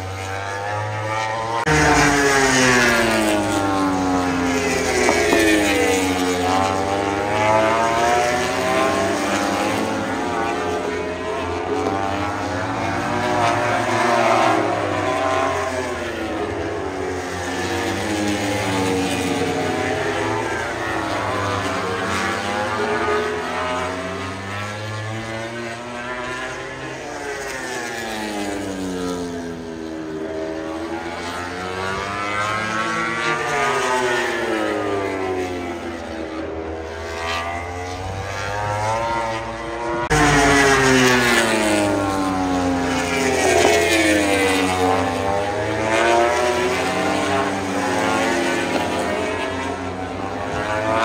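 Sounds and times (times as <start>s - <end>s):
racing motorcycle engines revving: 0.0s - 51.0s.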